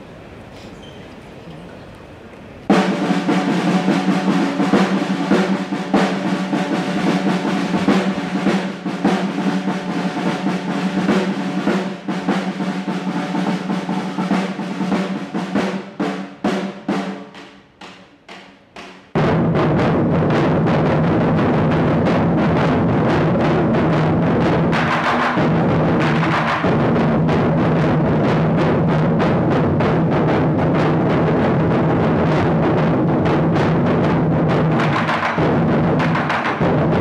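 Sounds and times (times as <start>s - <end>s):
barrel drums rolling: 0.1s - 37.0s.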